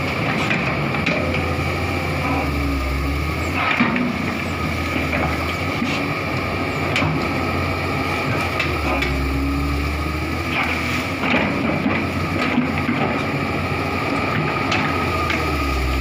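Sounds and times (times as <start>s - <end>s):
excavator engine whining: 0.0s - 16.0s.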